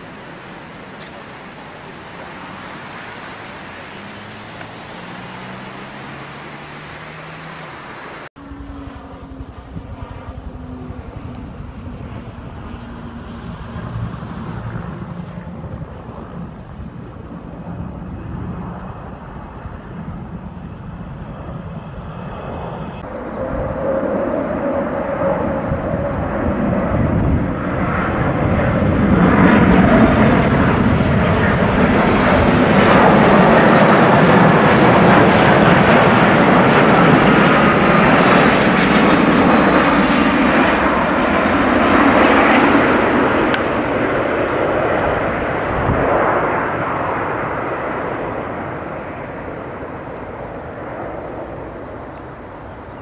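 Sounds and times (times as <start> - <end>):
distant aircraft noise: 0.0 - 53.0
jet airliner engine noise: 0.0 - 53.0
wind: 0.0 - 53.0.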